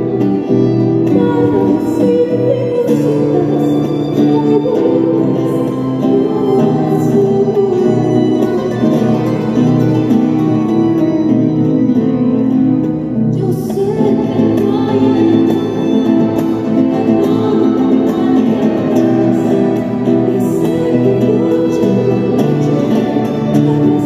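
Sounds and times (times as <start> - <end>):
woman singing: 0.0 - 11.3, 13.3 - 24.0
acoustic guitars playing: 0.0 - 24.0
violin: 0.0 - 24.0.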